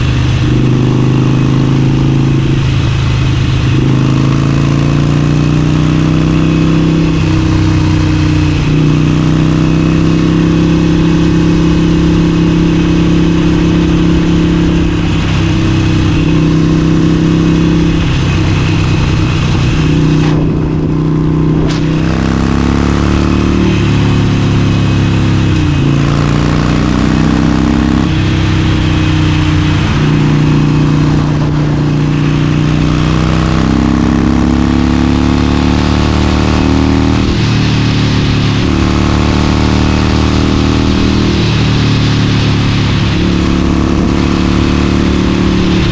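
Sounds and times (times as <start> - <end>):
motorcycle engine at speed: 0.0 - 45.9.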